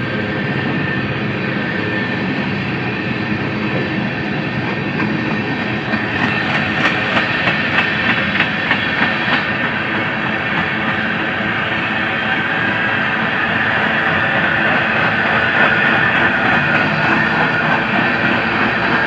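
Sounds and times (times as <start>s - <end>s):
train rumbling on rails: 0.0s - 19.0s
wheels clickety-clack over rail joints: 1.4s - 19.0s.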